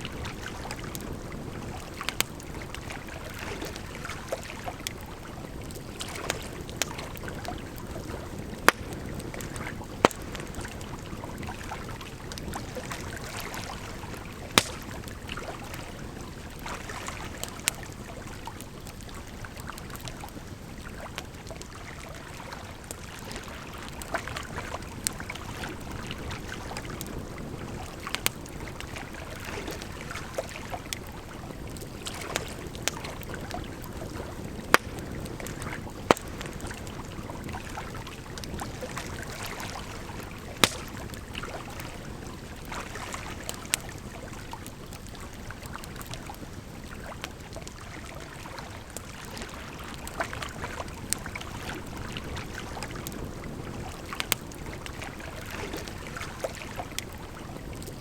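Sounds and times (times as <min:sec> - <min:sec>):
wood fire crackling and popping: 0:00.0 - 0:21.8, 0:22.8 - 0:47.8, 0:49.9 - 0:58.0.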